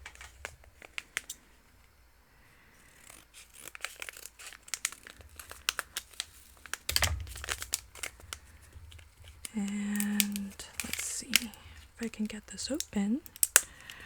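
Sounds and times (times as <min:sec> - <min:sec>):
plastic packet crinkling: 0:00.0 - 0:01.4, 0:03.0 - 0:14.0.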